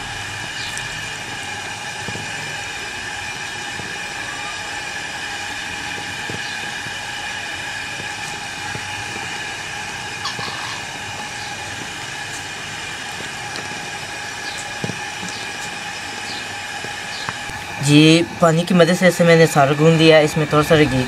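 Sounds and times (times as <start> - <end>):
machine whirring hum: 0.0 - 21.0.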